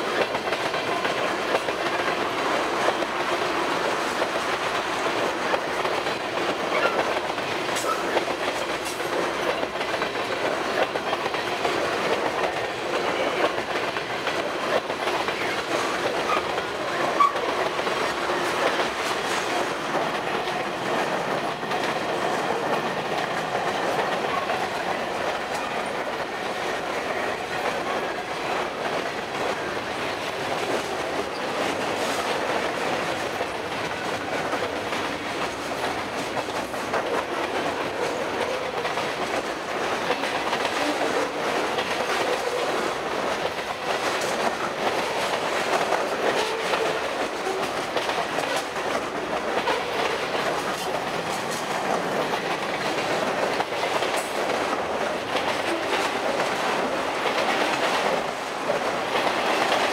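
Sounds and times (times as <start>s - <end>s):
steel wheels rolling on rail: 0.0s - 59.9s.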